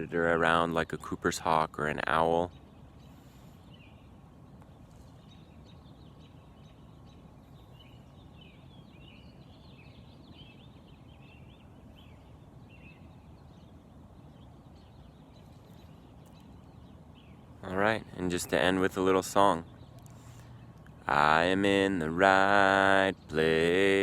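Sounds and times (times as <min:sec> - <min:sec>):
distant songbird chirping: 0:00.0 - 0:24.0
low outdoor rumble: 0:00.0 - 0:24.0.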